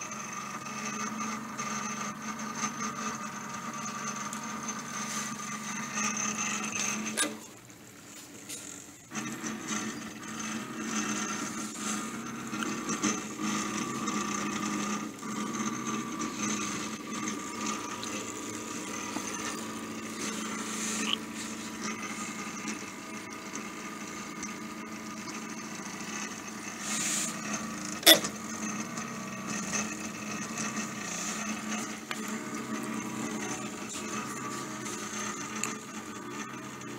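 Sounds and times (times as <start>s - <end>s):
stepper motors whining: 0.0s - 36.9s.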